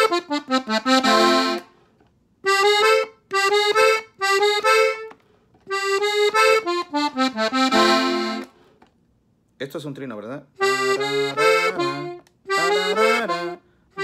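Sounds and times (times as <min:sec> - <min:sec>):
button accordion playing quick notes: 0:00.0 - 0:01.8, 0:02.4 - 0:08.6, 0:10.6 - 0:14.0.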